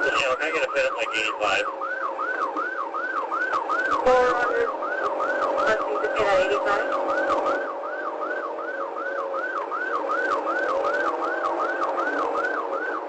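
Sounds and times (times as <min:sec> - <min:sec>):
police siren yelping: 0:00.0 - 0:13.0.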